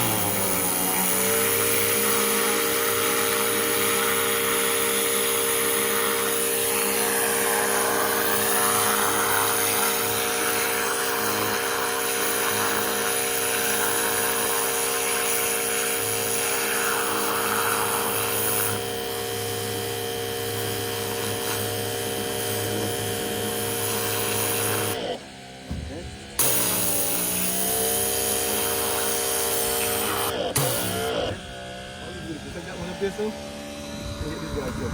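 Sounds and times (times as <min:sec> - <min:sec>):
pressure washer motor running: 0:00.0 - 0:34.9.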